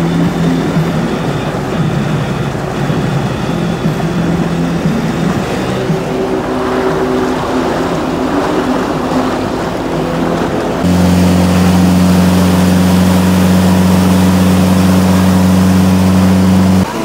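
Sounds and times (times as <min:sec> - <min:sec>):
motorboat engine droning: 0:00.0 - 0:17.0
water rushing: 0:00.0 - 0:17.0.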